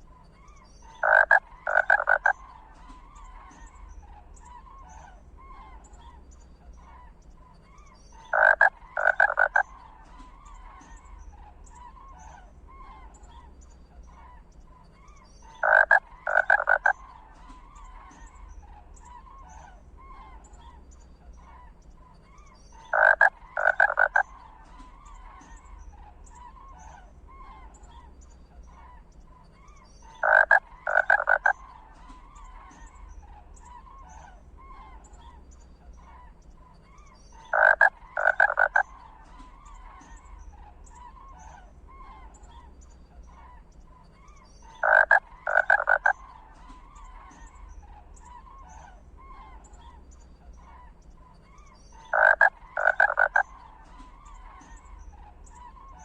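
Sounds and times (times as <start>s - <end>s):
small chirping calls: 0.0s - 56.0s.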